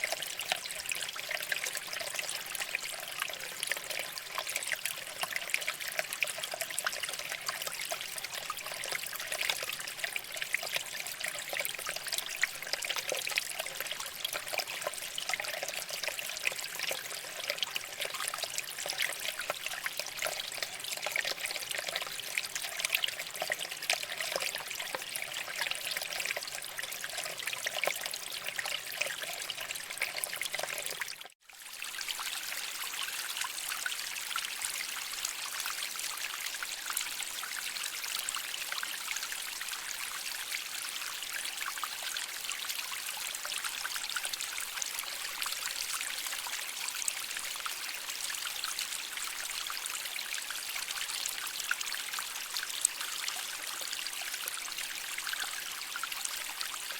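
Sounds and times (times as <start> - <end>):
water trickling over rocks: 0.0 - 56.9.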